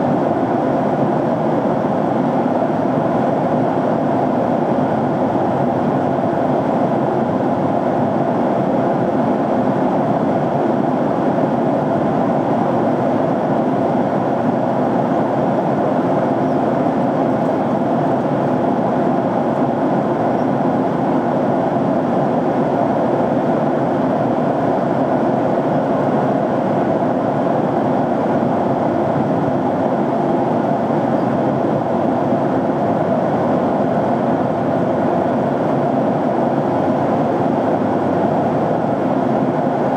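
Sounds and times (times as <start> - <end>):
airliner cabin noise in flight: 0.0 - 39.9.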